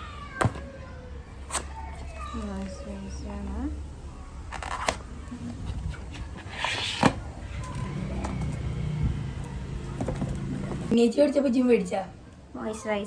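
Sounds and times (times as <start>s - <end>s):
passing traffic hum: 0.0s - 12.6s.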